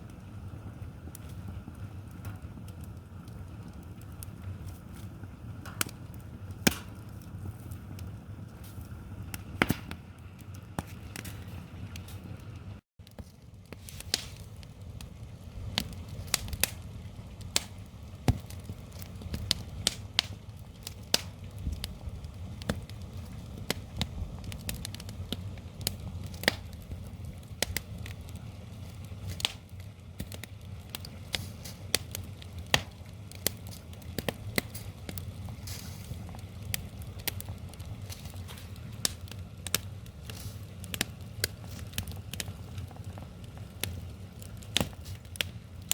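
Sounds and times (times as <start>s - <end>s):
sharp pops from burning logs: 0.0s - 45.9s
wood fire crackling: 0.0s - 45.9s.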